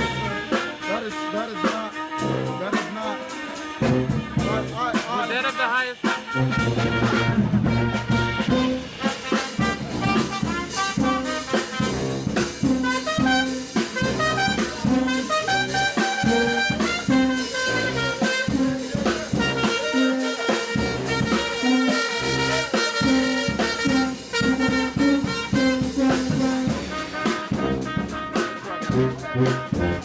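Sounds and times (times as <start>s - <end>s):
drum kit keeping time: 0.0s - 30.0s
trumpet lead lines: 0.0s - 30.0s.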